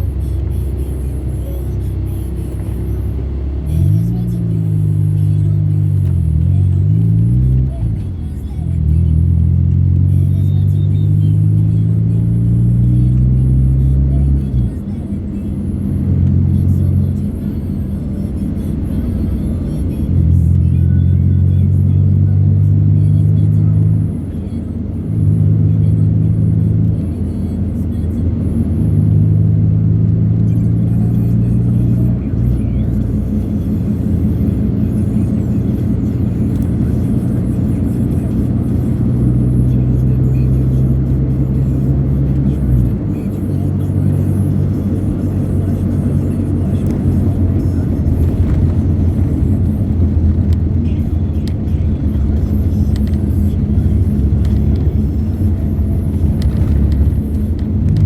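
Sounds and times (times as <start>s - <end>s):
vehicle rumble and road noise: 0.0s - 58.0s.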